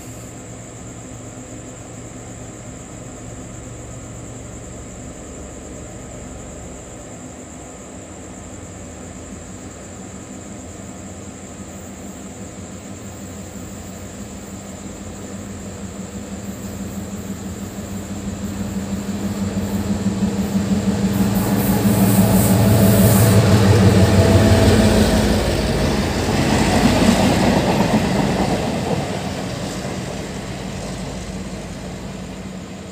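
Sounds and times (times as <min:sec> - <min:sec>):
locomotive engine drone: 0:00.0 - 0:11.3, 0:12.4 - 0:32.9
train wheels rumbling on track: 0:00.0 - 0:32.9.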